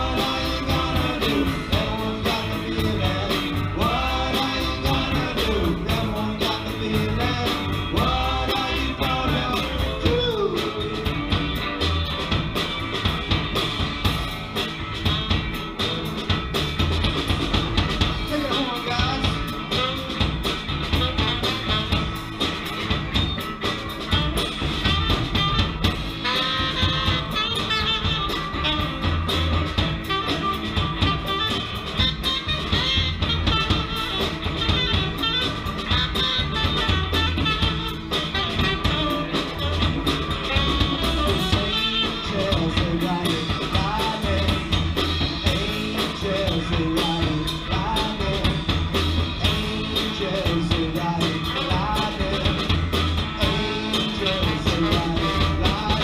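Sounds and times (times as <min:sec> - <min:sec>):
live band playing upbeat tune: 0:00.0 - 0:56.0.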